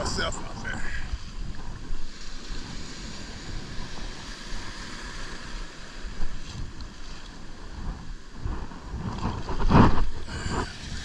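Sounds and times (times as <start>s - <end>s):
surf washing and foaming: 0.0s - 11.0s
wind buffeting microphone: 0.0s - 11.0s.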